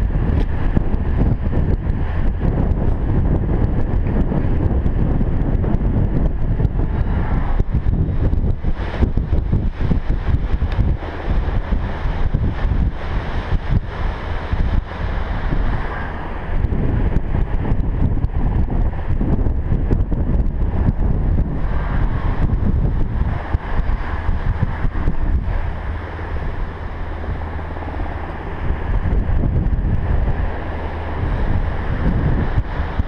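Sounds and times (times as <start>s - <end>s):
ocean surf washing: 0.0s - 33.0s
wind buffeting microphone: 0.0s - 33.0s.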